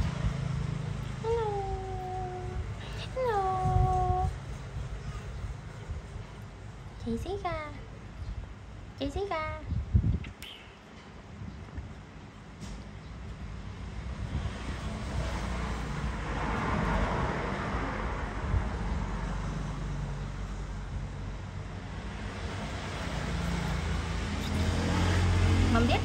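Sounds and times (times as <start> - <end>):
motor vehicle noise: 0.0 - 26.0.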